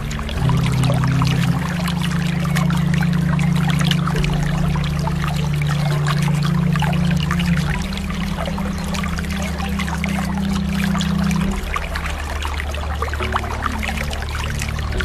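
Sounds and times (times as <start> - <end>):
steady low held tones: 0.0 - 15.0
water splashing and trickling: 0.0 - 15.0.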